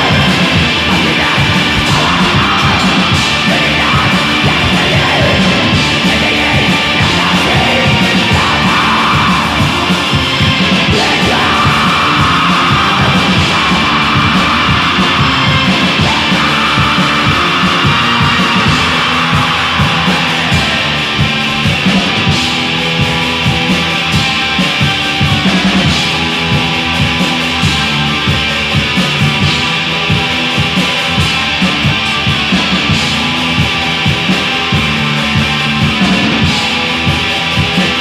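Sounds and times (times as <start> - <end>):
distorted guitars: 0.0 - 38.0
fast drumming: 0.0 - 38.0
harsh screamed vocals: 0.0 - 38.0.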